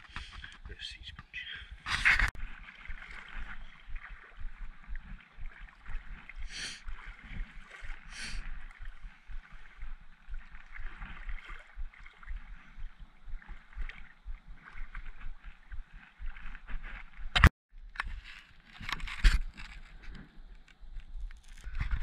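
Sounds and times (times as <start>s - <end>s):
water sloshing and lapping: 0.0s - 22.0s
water splashes: 0.0s - 22.0s.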